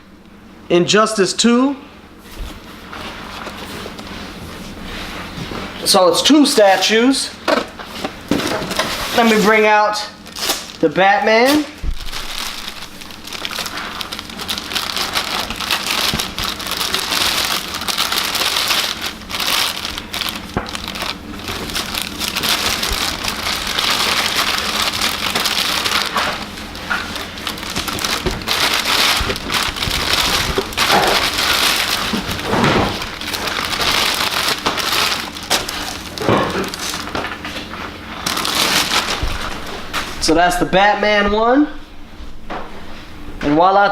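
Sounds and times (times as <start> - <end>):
plastic packaging crinkling: 2.2 - 40.4.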